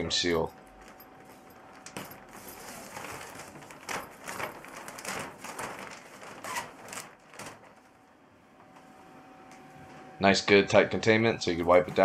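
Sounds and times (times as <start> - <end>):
plastic sheeting crinkling: 0.0 - 9.0, 11.1 - 12.0.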